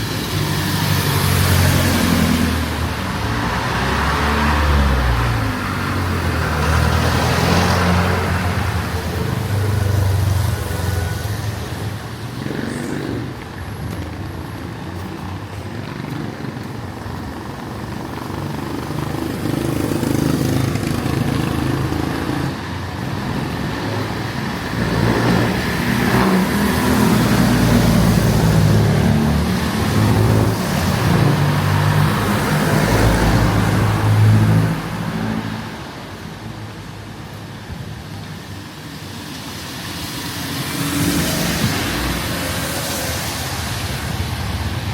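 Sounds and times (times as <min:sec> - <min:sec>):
vehicle engines passing: 0:00.0 - 0:44.9.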